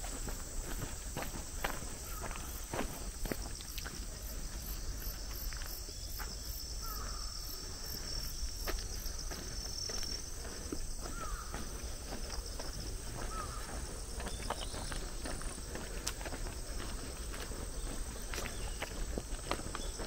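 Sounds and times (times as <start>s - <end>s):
footsteps on paved path: 0.0s - 20.0s
insects buzzing and chirping: 0.0s - 20.0s.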